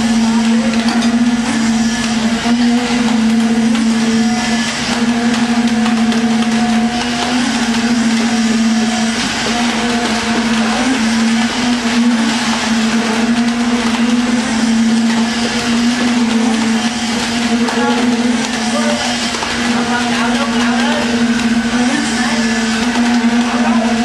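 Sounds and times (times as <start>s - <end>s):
steady machine drone: 0.0s - 24.0s.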